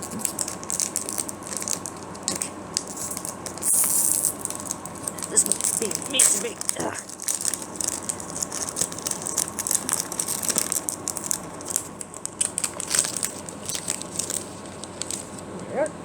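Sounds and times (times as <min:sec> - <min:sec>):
foil wrapper crinkling: 0:00.0 - 0:15.5.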